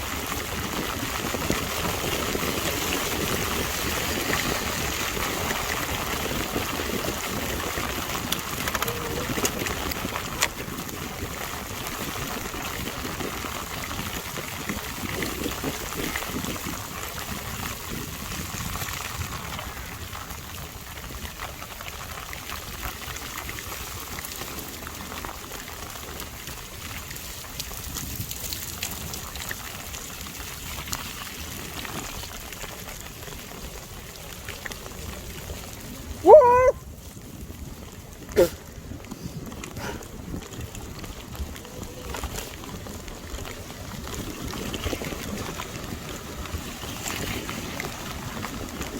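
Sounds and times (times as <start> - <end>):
heavy rain falling: 0.0 - 16.6, 23.6 - 48.9.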